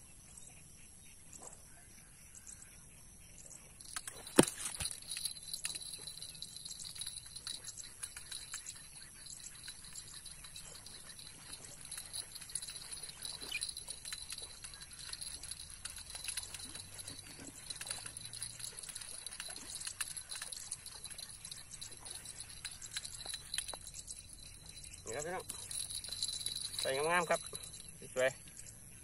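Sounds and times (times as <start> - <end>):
faint rustling of gear: 3.8 - 27.9.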